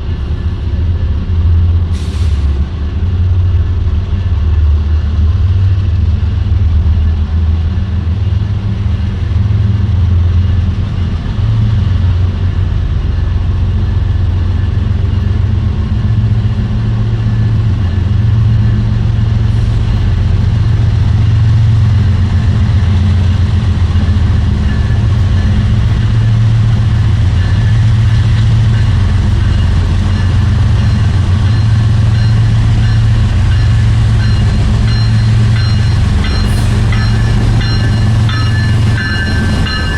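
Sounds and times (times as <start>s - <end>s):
locomotive engine rumble: 0.0s - 39.9s.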